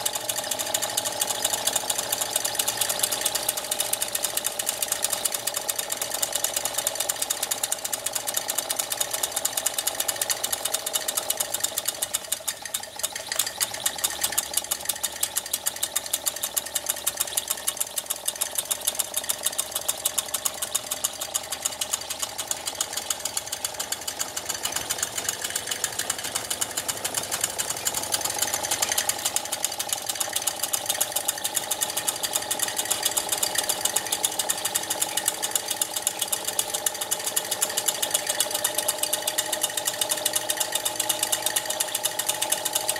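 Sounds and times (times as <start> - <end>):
toy steam engine clattering: 0.0 - 42.9.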